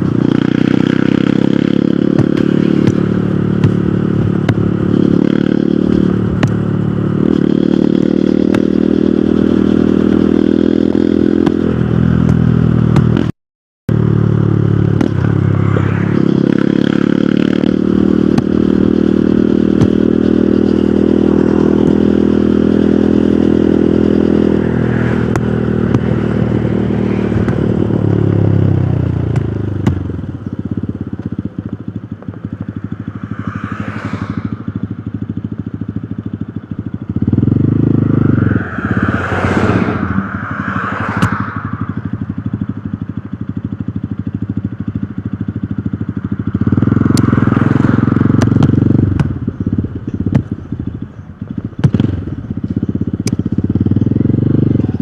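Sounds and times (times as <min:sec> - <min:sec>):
motorcycle engine running: 0:00.0 - 0:13.3, 0:13.9 - 0:55.0.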